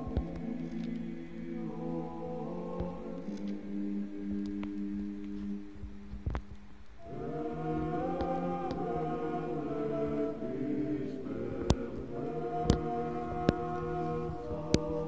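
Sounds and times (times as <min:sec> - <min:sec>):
choir singing a slow chant: 0:00.0 - 0:06.4, 0:07.0 - 0:15.0.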